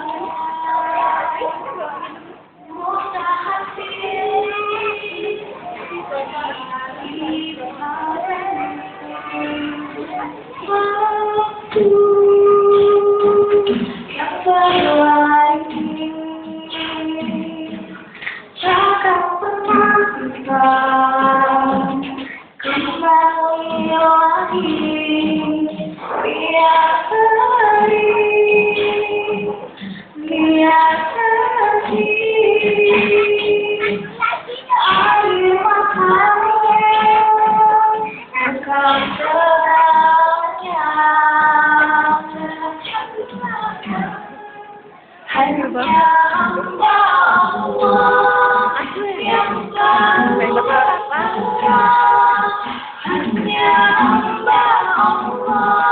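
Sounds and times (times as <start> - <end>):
choir singing held notes: 2.4 - 55.9.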